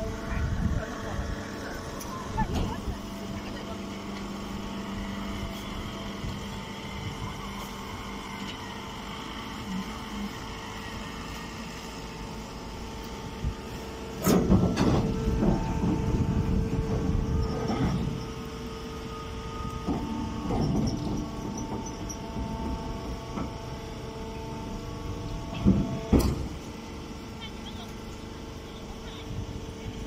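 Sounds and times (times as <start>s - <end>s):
machinery humming: 0.0s - 30.0s.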